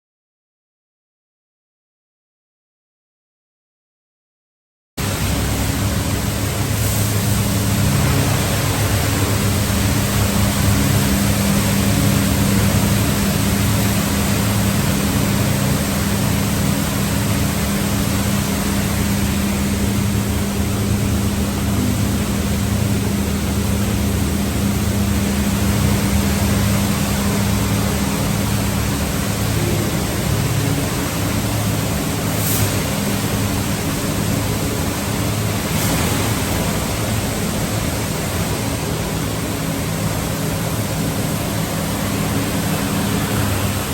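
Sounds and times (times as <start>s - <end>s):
pumps and motors humming: 5.0s - 43.9s
spraying water rushing: 5.0s - 43.9s.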